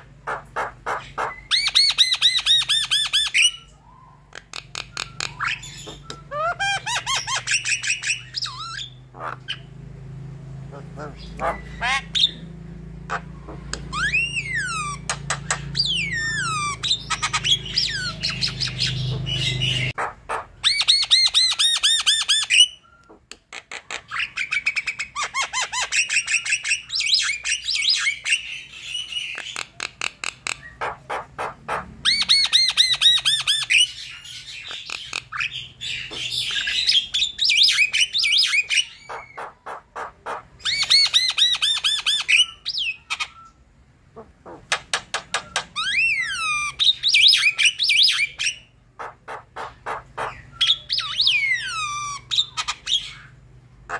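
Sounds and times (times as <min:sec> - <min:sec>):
myna bird singing: 0:00.0 - 0:53.9.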